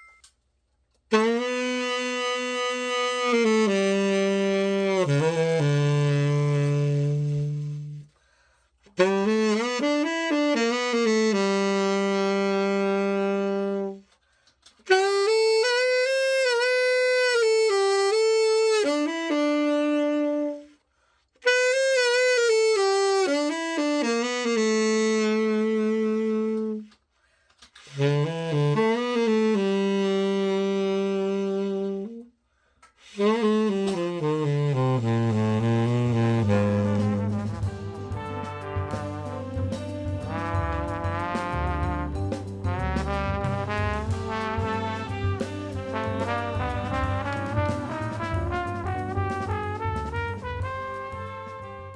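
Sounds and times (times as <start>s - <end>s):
solo tenor saxophone melody: 1.1s - 8.2s, 8.9s - 14.2s, 14.8s - 20.8s, 21.4s - 27.0s, 27.8s - 32.4s, 33.0s - 51.9s.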